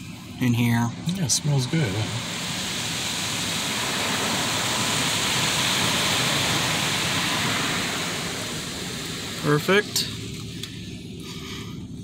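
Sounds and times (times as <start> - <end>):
car wash water spraying: 0.0 - 12.0.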